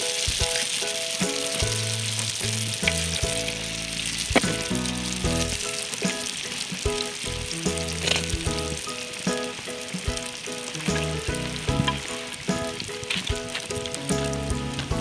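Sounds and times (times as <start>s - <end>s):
background music: 0.0s - 15.0s
dough sizzling in hot oil: 0.0s - 15.0s.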